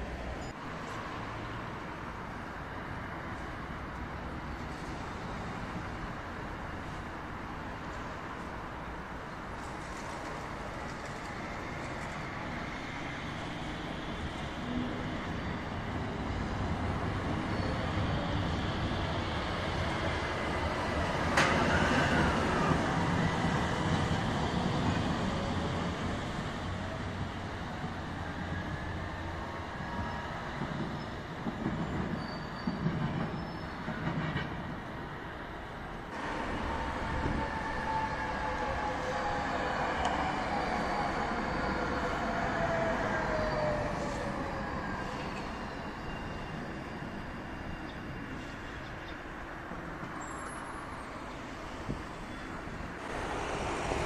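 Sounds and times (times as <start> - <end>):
electric tram passing: 0.0 - 54.0
street noise: 0.0 - 54.0
tram click: 3.3 - 29.4, 30.0 - 35.5, 36.1 - 54.0.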